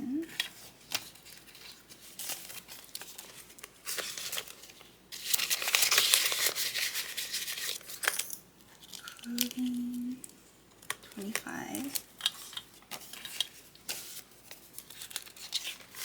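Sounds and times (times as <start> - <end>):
banknotes rustling and crinkling: 0.0 - 16.0.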